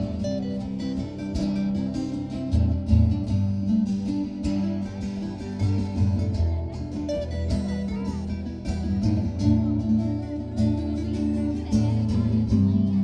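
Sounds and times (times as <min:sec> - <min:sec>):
bass line: 0:00.0 - 0:13.0
drums: 0:00.0 - 0:13.0
guitar: 0:00.0 - 0:13.0.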